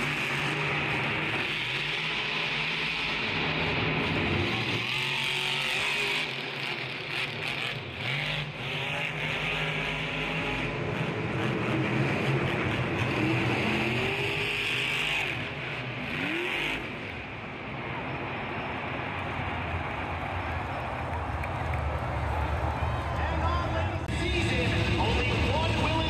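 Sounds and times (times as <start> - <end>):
monster truck engines revving: 0.0 - 26.0.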